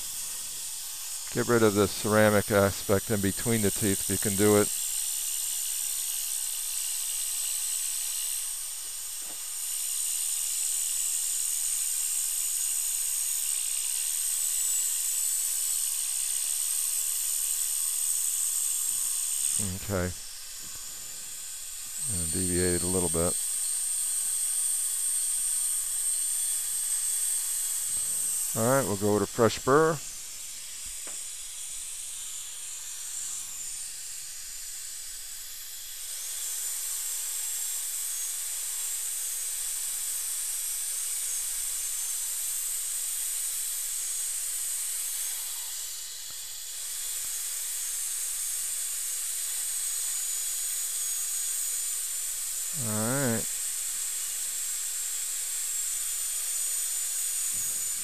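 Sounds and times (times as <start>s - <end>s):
dental drill whine and hiss: 0.0s - 58.0s.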